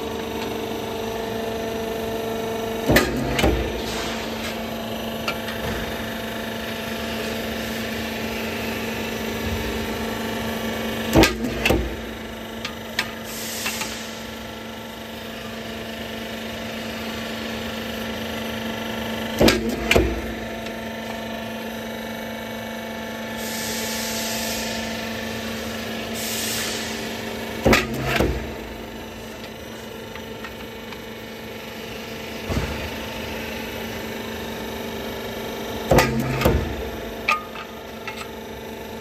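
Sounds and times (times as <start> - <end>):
machine humming steadily: 0.0 - 39.0.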